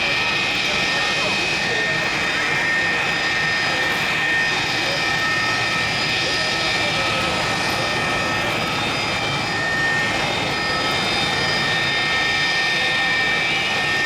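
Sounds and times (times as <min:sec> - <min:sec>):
jet turbines whining: 0:00.0 - 0:14.0.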